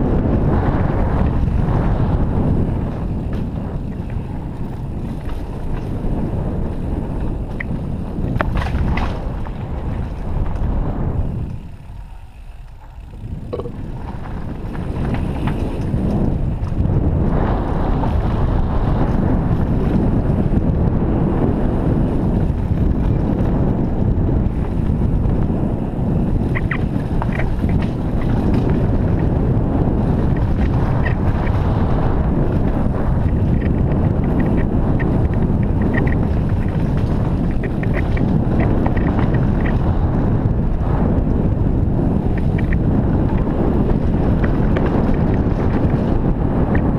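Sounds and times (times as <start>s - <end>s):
mountain bike rumbling and rattling: 0.0s - 46.9s
wind buffeting microphone: 0.0s - 46.9s.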